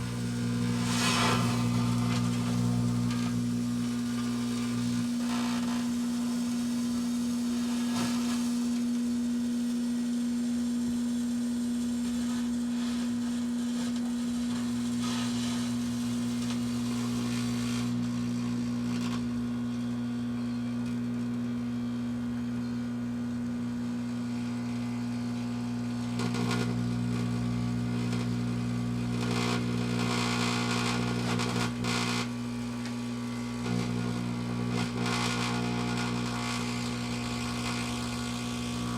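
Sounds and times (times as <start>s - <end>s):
sparklers fizzing: 0.0s - 22.4s, 23.6s - 38.9s
microwave oven humming: 0.0s - 38.9s.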